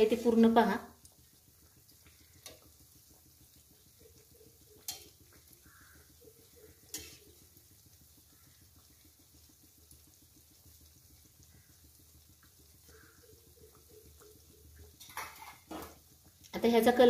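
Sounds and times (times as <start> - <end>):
dough deep-frying in oil: 0.0 - 17.0.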